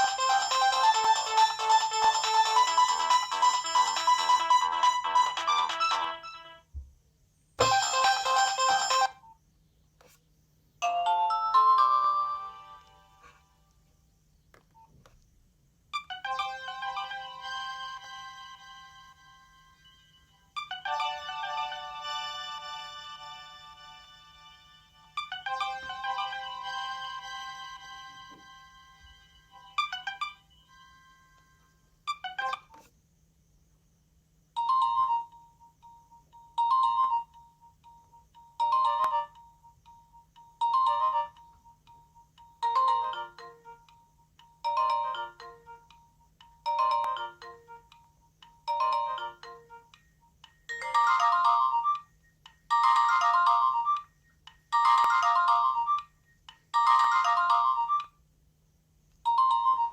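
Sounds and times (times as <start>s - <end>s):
mobile phone ringtone: 0.0s - 6.6s, 7.6s - 9.2s, 10.8s - 13.4s, 16.0s - 32.9s, 34.6s - 43.9s, 44.5s - 48.0s, 48.6s - 50.0s, 50.6s - 52.1s, 52.7s - 54.1s, 54.7s - 58.2s, 59.3s - 59.9s.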